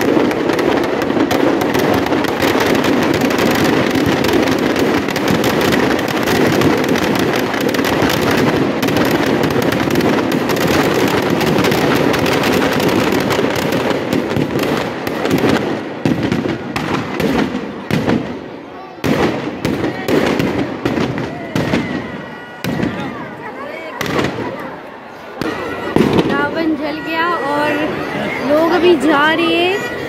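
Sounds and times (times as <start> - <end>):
firecrackers bangs and crackles: 0.0 - 30.0.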